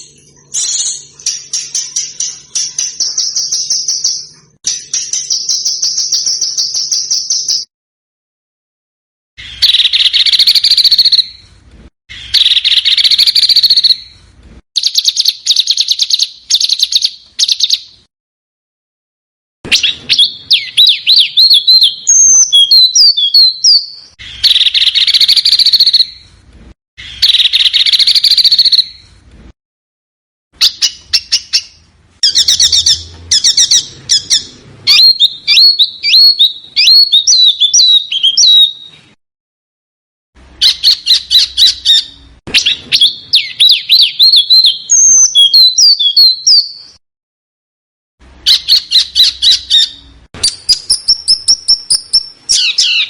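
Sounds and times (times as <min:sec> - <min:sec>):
songbirds chirping and trilling: 0:00.0 - 0:07.7, 0:09.4 - 0:18.1, 0:19.7 - 0:29.2, 0:30.6 - 0:39.2, 0:40.4 - 0:47.0, 0:48.2 - 0:53.0.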